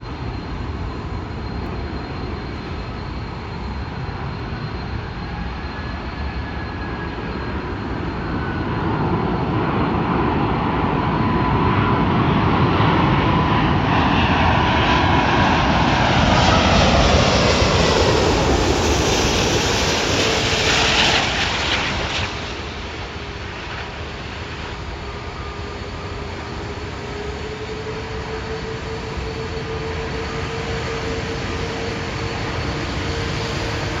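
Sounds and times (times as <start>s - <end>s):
jet airliner flying past: 0.0s - 34.0s.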